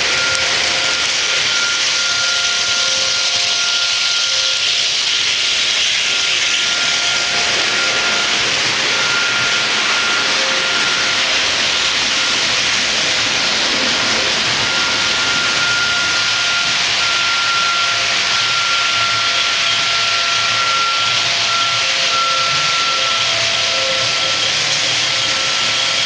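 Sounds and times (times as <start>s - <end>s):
model train running: 0.0s - 26.0s
thin high whine: 0.0s - 26.0s.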